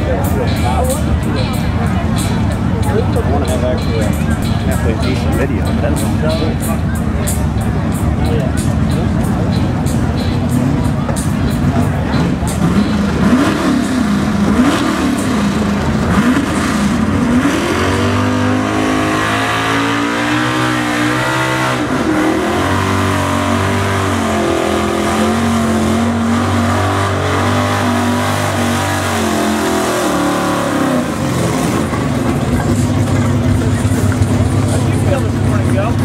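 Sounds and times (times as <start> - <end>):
truck engine revving and misfiring: 0.0 - 36.0.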